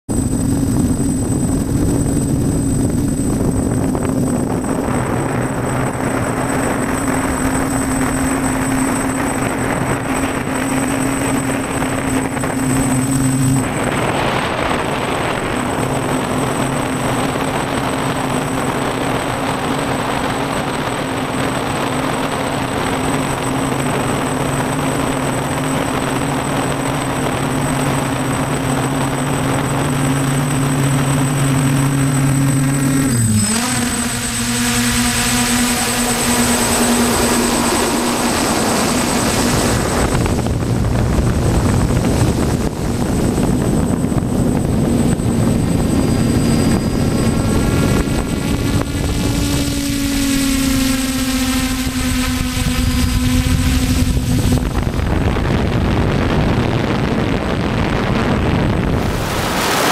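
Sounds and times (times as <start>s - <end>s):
drone motors humming: 0.1s - 59.9s
wind noise: 0.1s - 59.9s.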